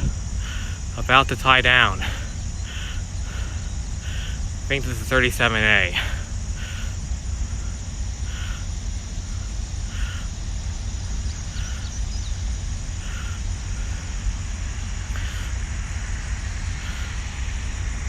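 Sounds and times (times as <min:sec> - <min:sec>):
crow cawing: 0:00.0 - 0:15.6, 0:16.8 - 0:17.4
insect drone: 0:00.0 - 0:18.0
low rumble: 0:00.0 - 0:18.0.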